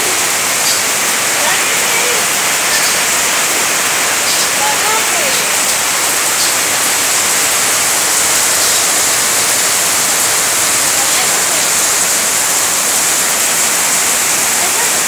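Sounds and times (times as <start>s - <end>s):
heavy rain on metal roofing: 0.0s - 15.0s
rainwater streaming off roof: 0.0s - 15.0s.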